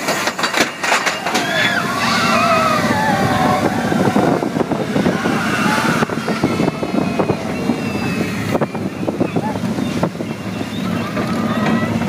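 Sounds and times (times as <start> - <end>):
roller coaster wheels rattling: 0.0 - 12.0
wind rushing over microphone: 1.3 - 12.0.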